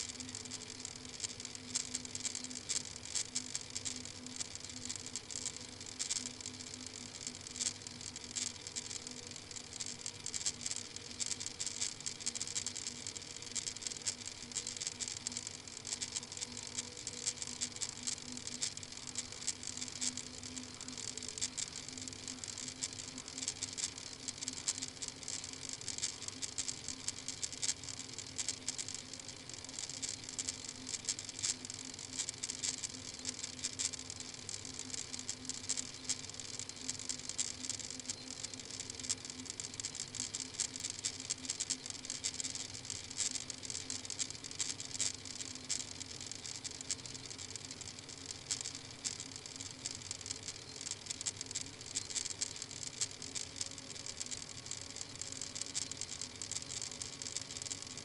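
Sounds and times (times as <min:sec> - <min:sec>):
dense crackling hiss: 0:00.0 - 0:58.0
low constant hum: 0:00.0 - 0:58.0.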